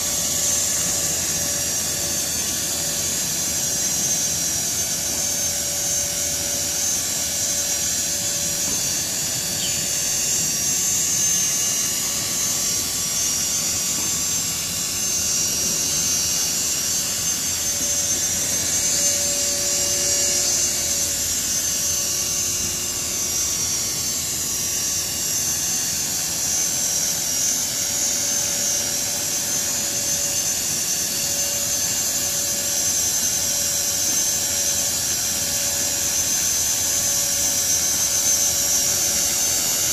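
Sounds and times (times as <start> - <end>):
motor and gears whining: 0.0 - 39.9
rotor blades rushing: 0.0 - 39.9.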